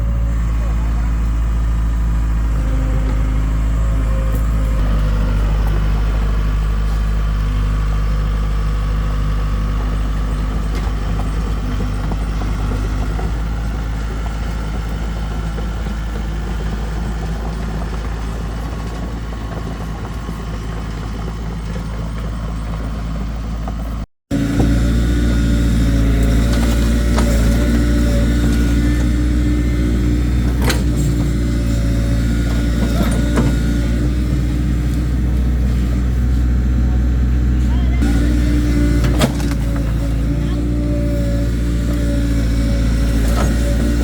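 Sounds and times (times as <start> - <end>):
engine rumbling: 0.0 - 44.0.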